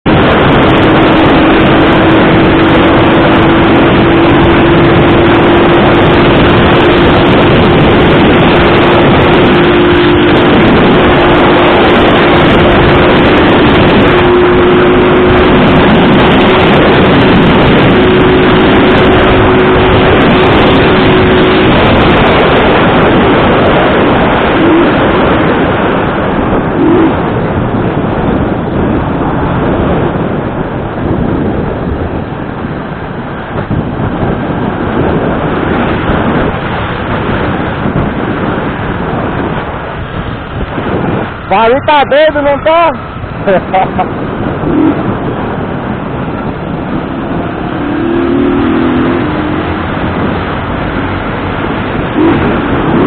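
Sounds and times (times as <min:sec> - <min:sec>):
vehicle engine tone: 0:00.0 - 0:53.0
wind and road roar: 0:00.0 - 0:53.0.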